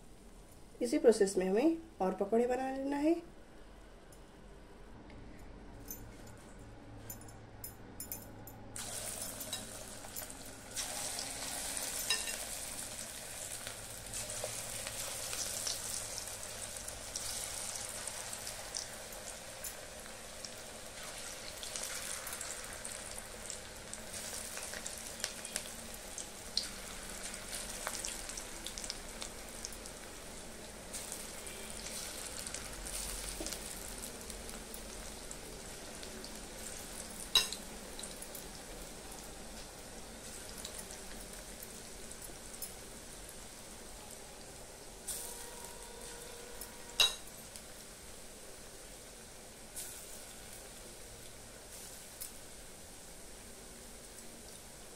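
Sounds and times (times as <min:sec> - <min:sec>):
batter sizzling in hot oil: 0:08.8 - 0:54.9.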